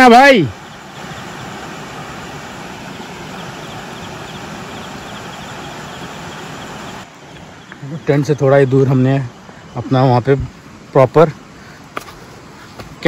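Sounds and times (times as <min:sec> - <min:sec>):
insects chirping faintly: 0:00.0 - 0:13.0
river water flowing: 0:00.0 - 0:13.0.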